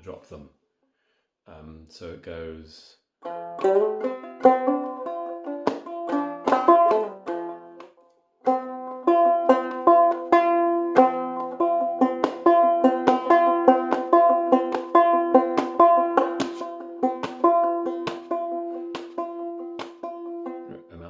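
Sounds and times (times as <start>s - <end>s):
banjo playing: 3.2s - 21.0s.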